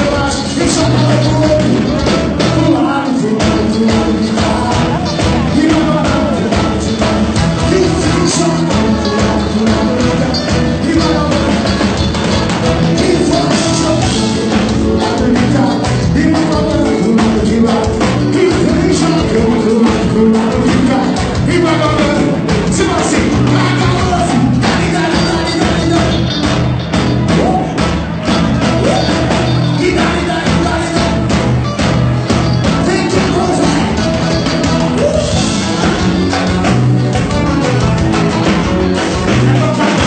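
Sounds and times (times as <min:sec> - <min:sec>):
live band with electric guitars: 0:00.0 - 0:40.0
man singing: 0:00.0 - 0:40.0.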